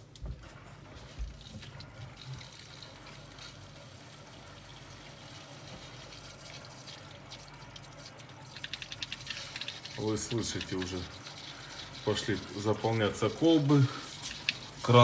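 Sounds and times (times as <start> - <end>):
water hissing into filter housings: 0.6 - 15.0
faucet gurgling: 1.0 - 15.0.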